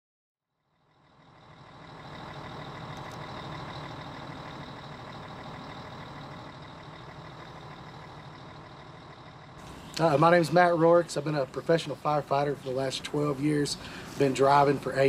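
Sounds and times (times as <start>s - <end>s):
diesel engine idling: 0.7s - 15.0s.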